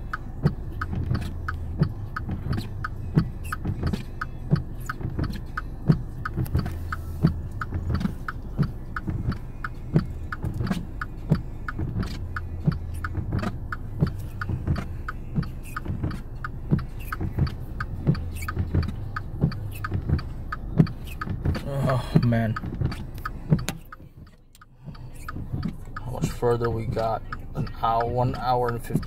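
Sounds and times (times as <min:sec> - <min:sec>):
car engine and road rumble: 0:00.0 - 0:29.0
light regular clicking: 0:00.1 - 0:29.0.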